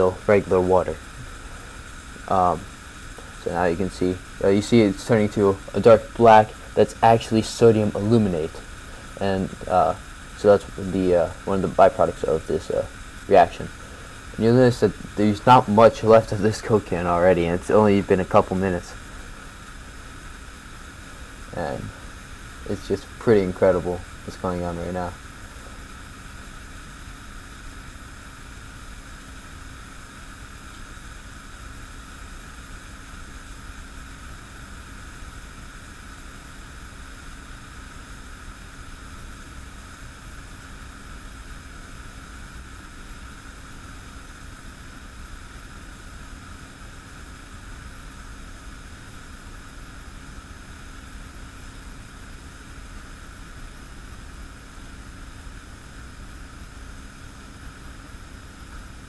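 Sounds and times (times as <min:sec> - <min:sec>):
faint steady hum: 0:00.0 - 0:59.0
fizzing hiss of bubbling liquid: 0:00.0 - 0:59.0.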